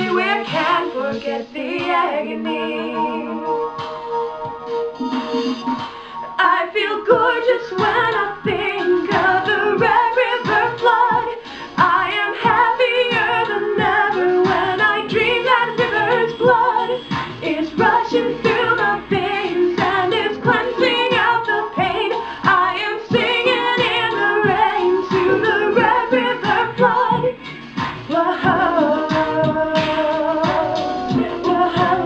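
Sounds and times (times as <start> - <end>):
woman singing with vibrato: 0.0 - 3.8, 5.2 - 27.4, 28.1 - 32.0
musical accompaniment with beat: 0.0 - 32.0.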